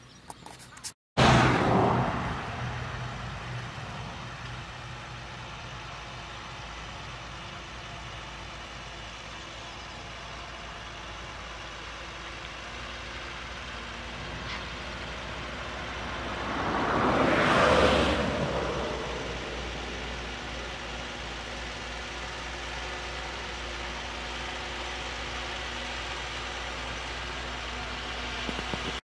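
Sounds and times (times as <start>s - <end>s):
tractor diesel engine under load: 1.2s - 29.0s.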